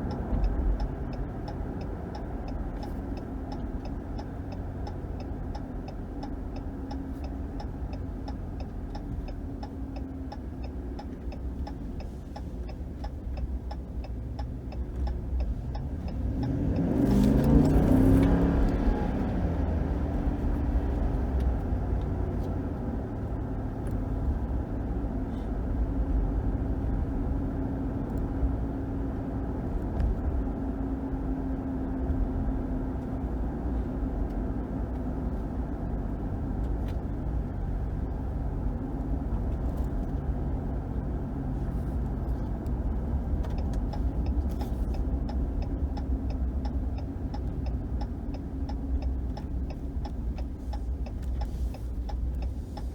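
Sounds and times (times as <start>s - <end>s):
car cabin road and engine rumble: 0.0s - 52.9s
turn signal ticking: 0.0s - 52.9s.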